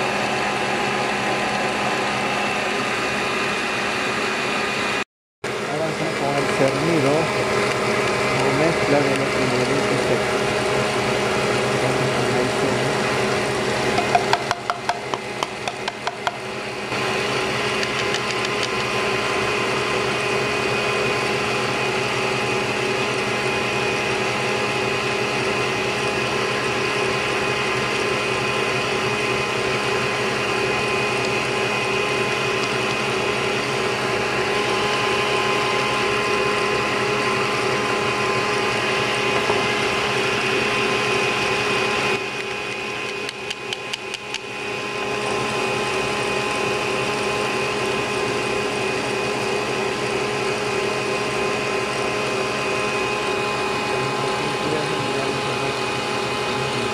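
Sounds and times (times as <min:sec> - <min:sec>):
electric mixer motor: 0:00.0 - 0:56.9.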